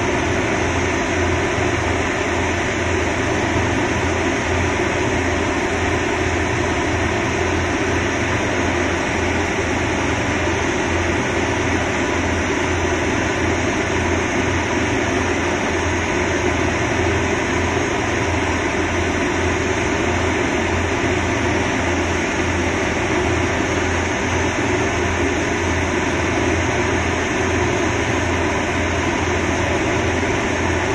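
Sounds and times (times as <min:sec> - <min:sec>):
concrete mixer engine running: 0:00.0 - 0:30.9.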